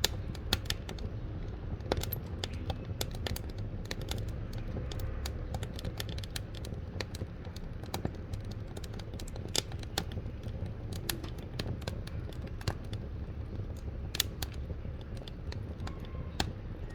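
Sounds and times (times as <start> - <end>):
low fire rumble: 0.0 - 16.9
wood fire crackling and popping: 0.0 - 16.9.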